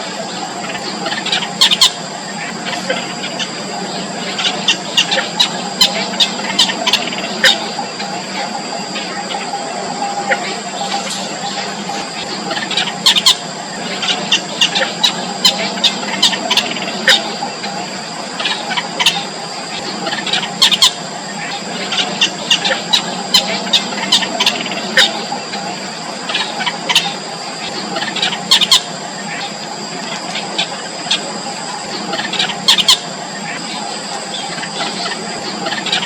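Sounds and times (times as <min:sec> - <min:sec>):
nestlings cheeping: 0:00.0 - 0:36.0
steady high-pitched tone: 0:00.0 - 0:36.0.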